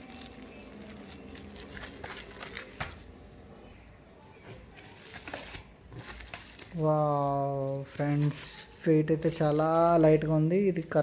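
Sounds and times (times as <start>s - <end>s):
packaging rustling and crinkling: 0.0s - 3.1s, 4.4s - 11.0s.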